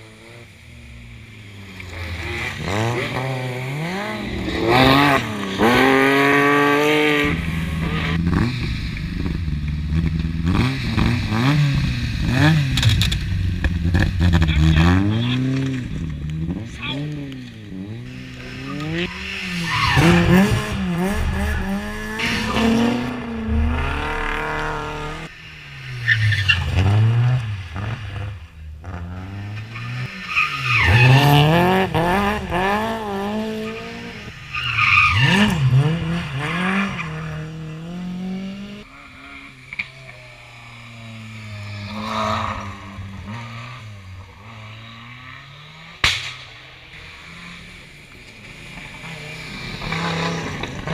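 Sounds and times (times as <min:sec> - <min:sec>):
rally car engines revving hard: 0:01.2 - 0:50.9.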